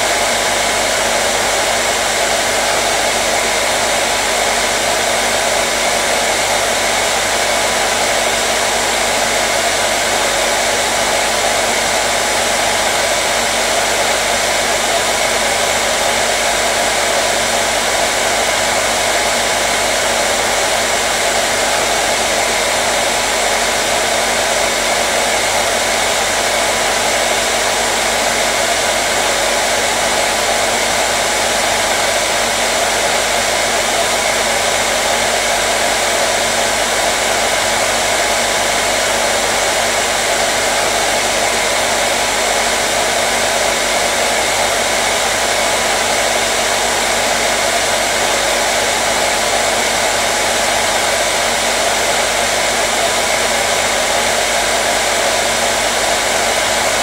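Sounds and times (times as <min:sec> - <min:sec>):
electric hair dryer running: 0:00.0 - 0:57.0.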